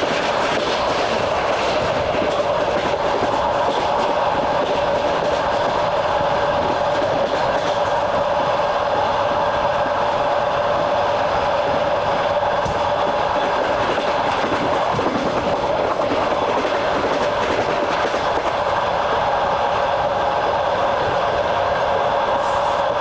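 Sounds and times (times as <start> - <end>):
clickety-clack of rail joints: 0.0 - 23.0
train wheels rumbling on rails: 0.0 - 23.0.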